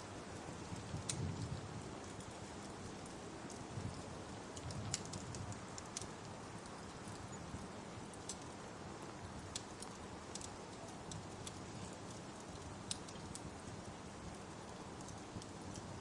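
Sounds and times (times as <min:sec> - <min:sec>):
rain hiss: 0:00.0 - 0:16.0
wood fire popping and crackling: 0:00.0 - 0:16.0.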